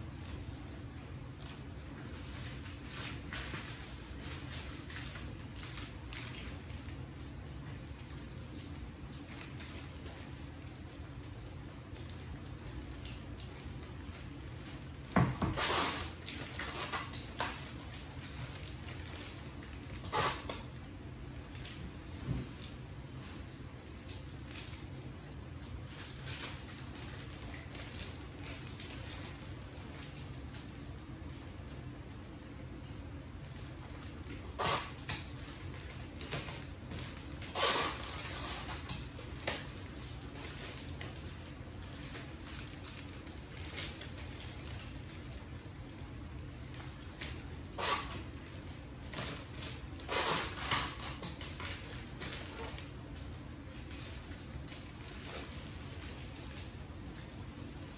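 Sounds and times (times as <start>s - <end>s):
steady low hum: 0.0s - 57.9s
wrapping paper rustling: 0.0s - 57.9s.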